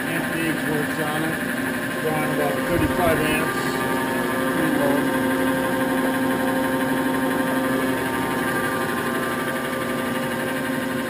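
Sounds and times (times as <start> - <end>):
surface grinder humming: 0.0 - 11.0.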